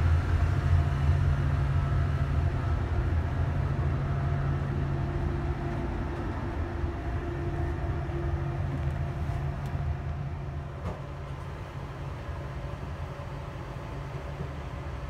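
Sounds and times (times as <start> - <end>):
train interior hum and rumble: 0.0 - 15.0.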